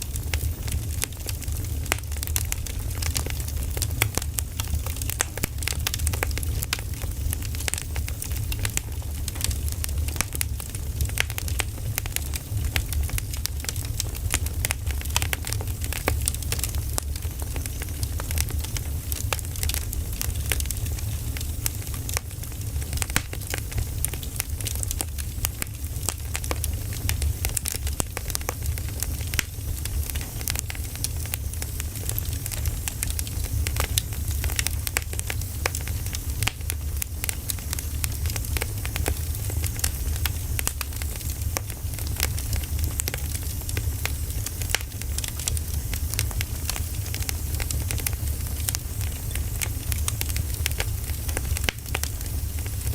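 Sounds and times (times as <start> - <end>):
fire low rumble: 0.0 - 52.9
wood fire crackling: 0.0 - 52.9.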